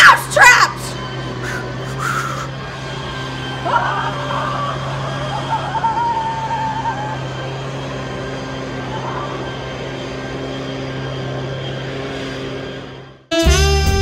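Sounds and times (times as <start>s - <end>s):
steady engine-like drone: 0.0s - 14.0s.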